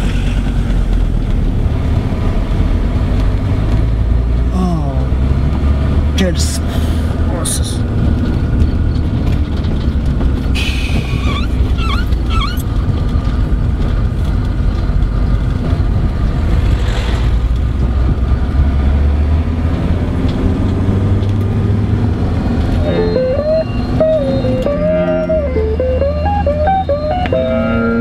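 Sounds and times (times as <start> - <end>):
van engine and tyre noise: 0.0 - 28.0.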